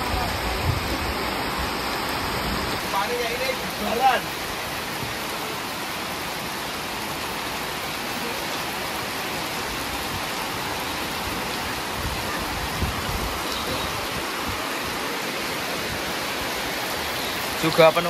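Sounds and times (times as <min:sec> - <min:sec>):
rain falling on water: 0:00.0 - 0:18.0.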